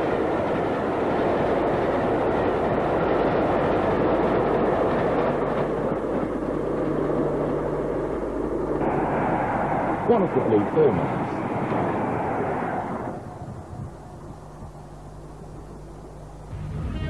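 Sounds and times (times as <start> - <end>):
diesel train rumble: 0.0 - 17.0
steady low hum: 0.0 - 17.0.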